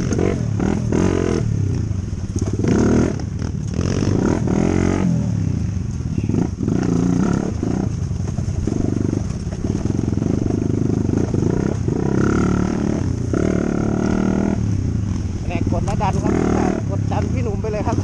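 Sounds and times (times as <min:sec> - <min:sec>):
dirt bike engine revving: 0:00.0 - 0:08.0, 0:08.6 - 0:18.0.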